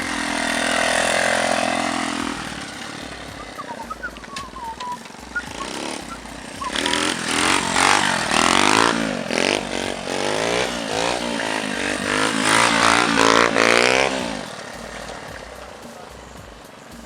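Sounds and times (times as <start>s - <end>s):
engine running low: 0.0s - 17.0s
minibike engine revving: 0.0s - 17.0s.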